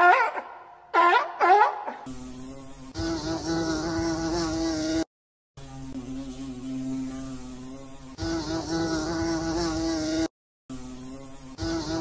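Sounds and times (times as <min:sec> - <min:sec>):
honeybees buzzing: 0:01.1 - 0:12.0.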